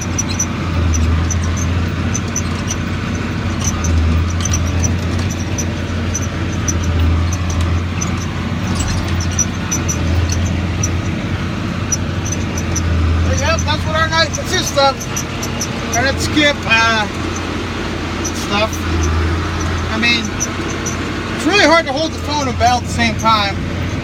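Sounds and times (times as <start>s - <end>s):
tractor diesel engine droning: 0.0s - 24.0s.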